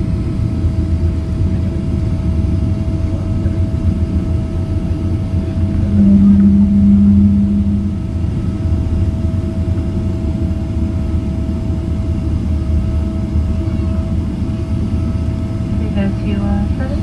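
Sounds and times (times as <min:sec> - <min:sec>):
constant whine: 0:00.0 - 0:17.0
jet engines and wheels rumbling: 0:00.0 - 0:17.0
loud low hum: 0:00.0 - 0:17.0.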